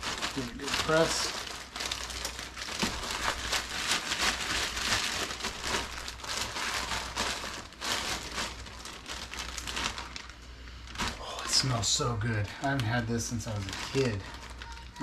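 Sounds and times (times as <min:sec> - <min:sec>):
breading rustling inside bag: 0:00.0 - 0:15.0
plastic bag crinkling: 0:00.0 - 0:15.0.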